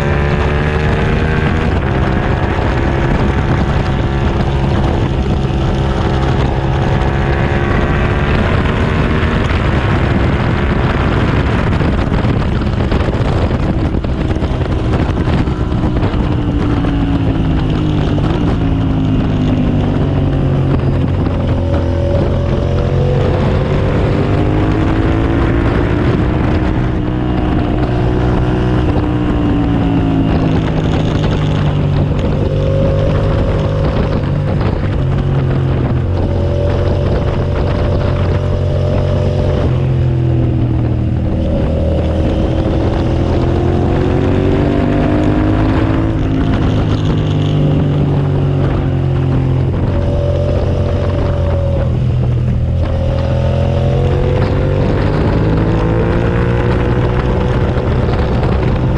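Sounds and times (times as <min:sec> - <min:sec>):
motorcycle engine revving under load: 0:00.0 - 0:58.9
wind rushing over microphone: 0:00.0 - 0:58.9.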